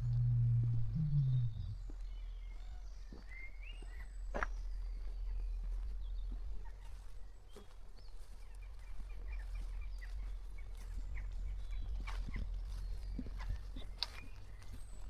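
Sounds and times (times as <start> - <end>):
small birds chirping: 0.0 - 15.0
wind rumble on microphone: 0.0 - 15.0.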